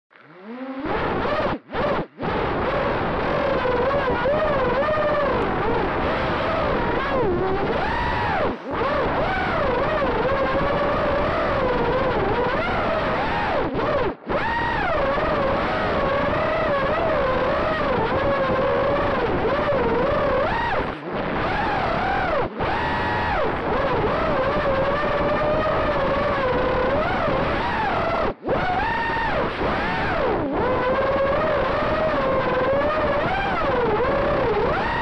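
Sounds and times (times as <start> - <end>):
drone motors buzzing whine: 0.1 - 35.0.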